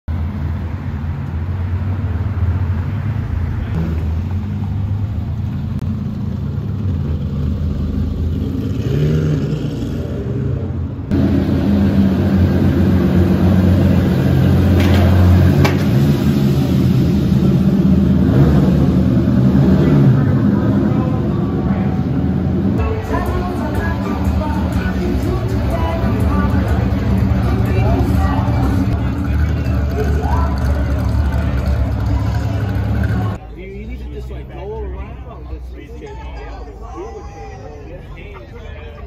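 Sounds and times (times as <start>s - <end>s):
car engines revving: 0.1s - 35.8s
car engine in parking garage: 0.1s - 39.0s.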